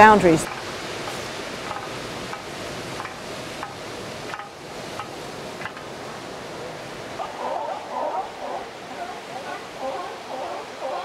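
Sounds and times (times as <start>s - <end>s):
ocean surf hissing on beach: 0.0s - 11.0s.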